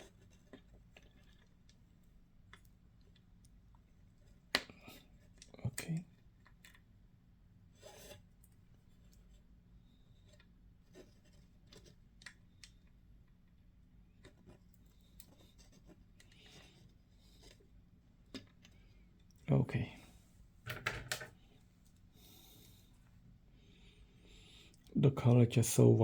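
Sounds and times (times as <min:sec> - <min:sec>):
soft rubs of plastic parts: 0:00.0 - 0:07.0, 0:07.6 - 0:25.0
low steady hum: 0:00.2 - 0:26.0.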